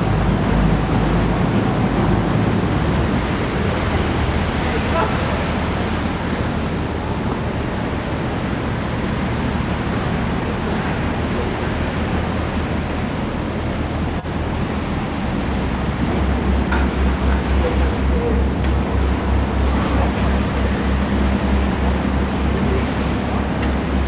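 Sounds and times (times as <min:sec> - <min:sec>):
boat engine drone: 0:00.0 - 0:24.0
rushing water: 0:00.0 - 0:24.0
wind buffeting microphone: 0:00.0 - 0:24.0.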